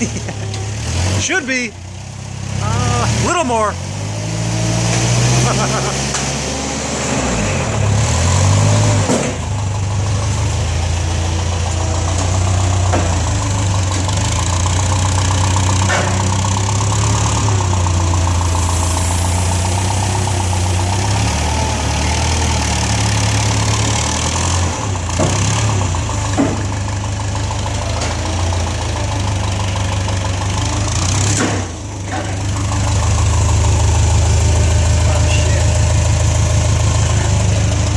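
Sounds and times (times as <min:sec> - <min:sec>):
forklift engine revving: 0:00.0 - 0:37.9.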